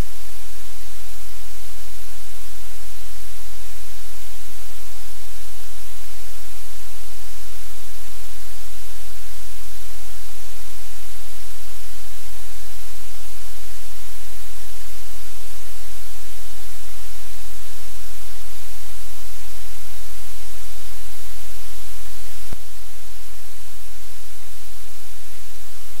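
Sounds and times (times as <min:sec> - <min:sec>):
loud static hiss: 0:00.0 - 0:26.0.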